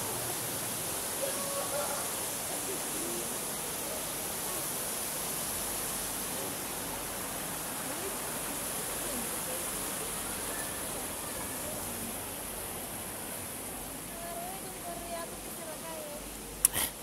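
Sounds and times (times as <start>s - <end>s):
faint voices: 0.0s - 17.0s
stream water running over rocks: 0.0s - 17.0s.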